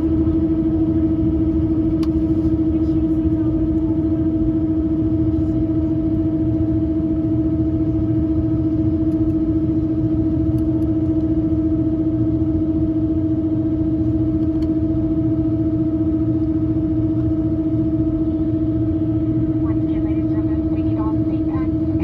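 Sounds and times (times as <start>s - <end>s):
aircraft cabin engine rumble: 0.0s - 22.0s
loud steady hum: 0.0s - 22.0s.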